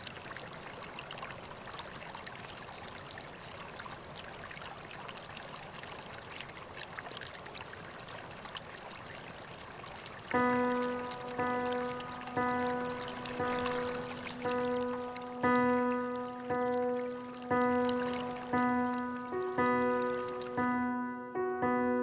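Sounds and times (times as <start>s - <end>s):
water trickling and splashing: 0.0s - 20.9s.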